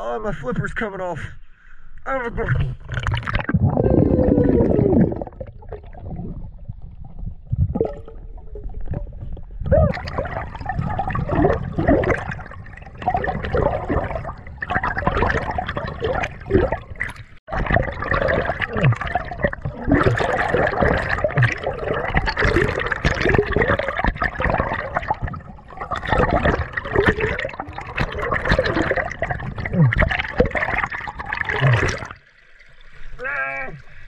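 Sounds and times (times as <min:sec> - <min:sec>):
water gurgling and sloshing: 0:02.3 - 0:34.0
bubbly pops: 0:02.8 - 0:32.2.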